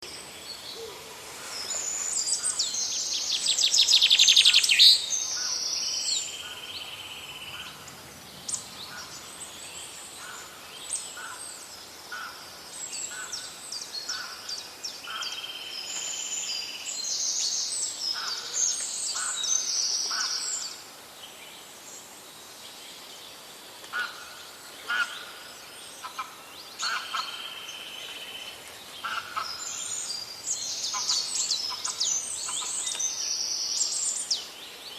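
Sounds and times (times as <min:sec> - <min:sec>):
birds singing and calling: 0:00.0 - 0:34.9.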